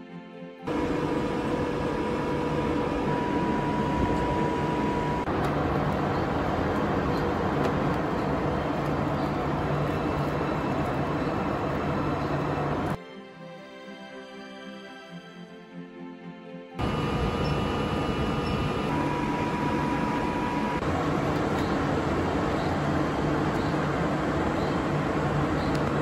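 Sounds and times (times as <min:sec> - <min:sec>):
low hum of conveyor fans: 0:00.7 - 0:13.0, 0:16.8 - 0:26.0
processing machinery running: 0:00.7 - 0:13.0, 0:16.8 - 0:26.0
steady high whine: 0:00.7 - 0:13.0, 0:16.8 - 0:26.0.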